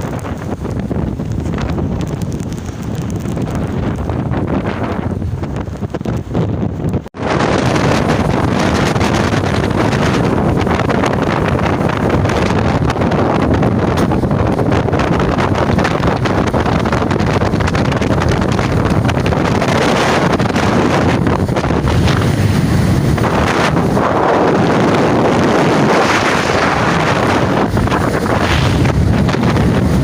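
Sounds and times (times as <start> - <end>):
floodwater rushing: 0.0 - 30.0
wind buffeting microphone: 0.0 - 30.0.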